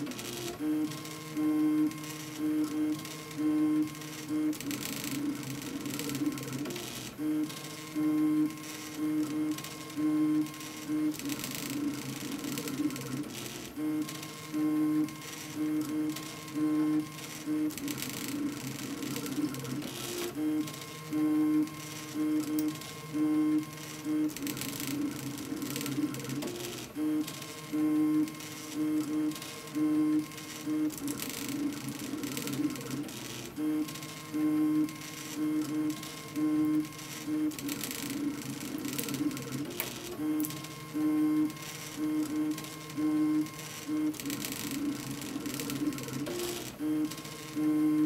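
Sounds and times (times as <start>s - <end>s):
printer stepper motors whining: 0.0s - 48.0s.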